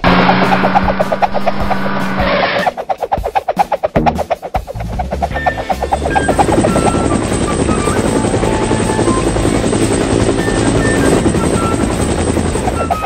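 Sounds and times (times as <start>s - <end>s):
helicopter rotor chopping: 0.0s - 13.0s
light background music: 0.2s - 13.0s.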